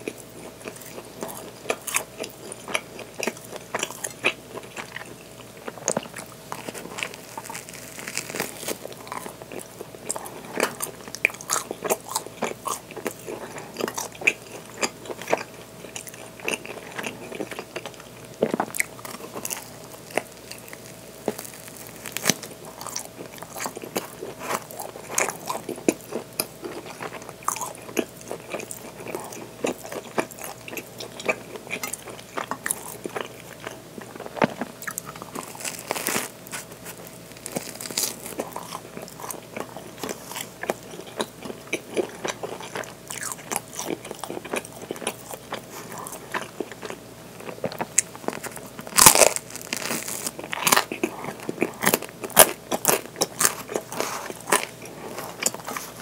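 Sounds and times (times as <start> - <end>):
biting and chewing bread: 0.0 - 56.0
crust crackling: 0.0 - 56.0.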